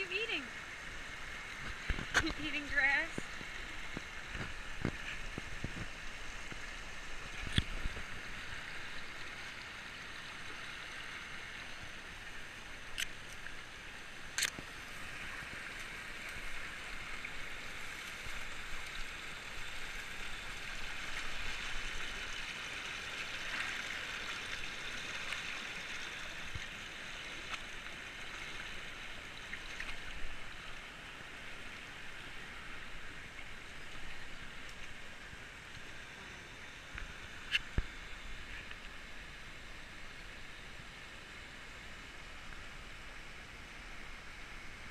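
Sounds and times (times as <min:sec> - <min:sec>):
stream rushing over rocks: 0:00.0 - 0:44.9.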